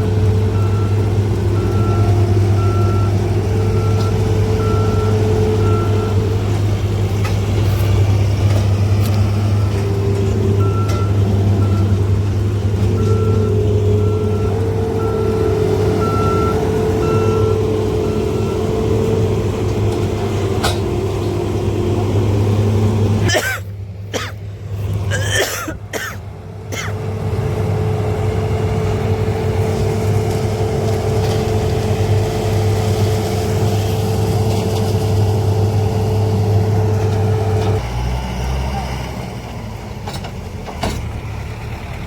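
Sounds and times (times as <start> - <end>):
diesel machinery humming: 0.0 - 42.0.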